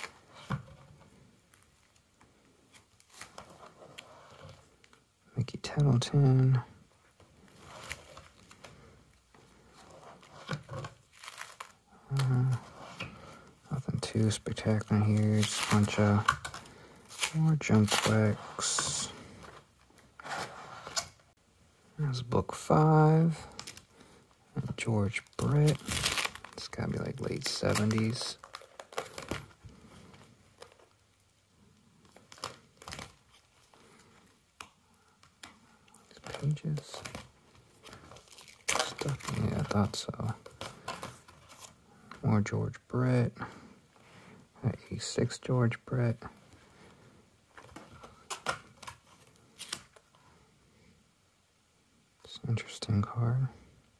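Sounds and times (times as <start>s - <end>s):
plastic sleeves rustling: 0.0s - 51.0s.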